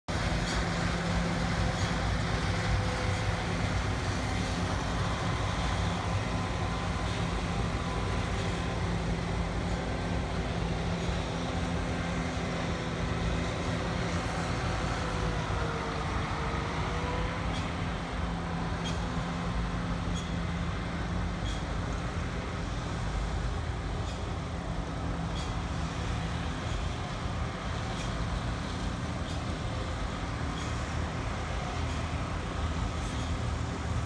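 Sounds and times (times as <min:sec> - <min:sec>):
combine harvester engine drone: 0:00.0 - 0:34.0.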